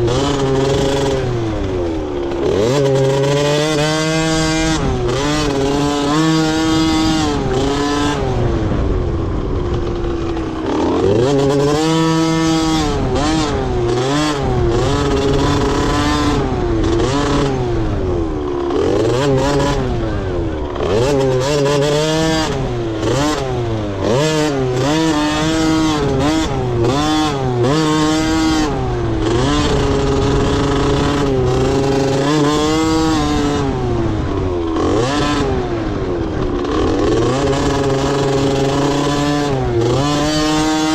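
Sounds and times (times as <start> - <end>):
dirt bike engines revving: 0.0 - 40.9
low engine note: 4.5 - 38.8.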